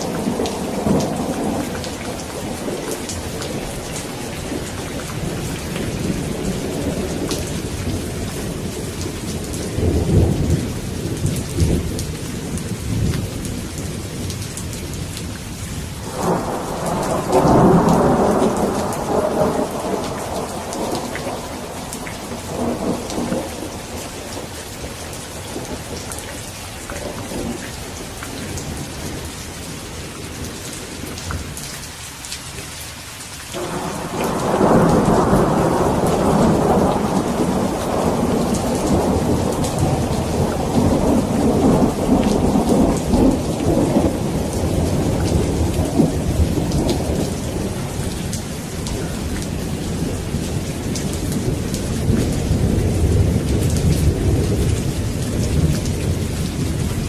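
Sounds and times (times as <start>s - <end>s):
rolling thunder: 0.0s - 15.3s, 16.0s - 26.3s, 33.6s - 57.0s
heavy rain: 0.0s - 57.0s.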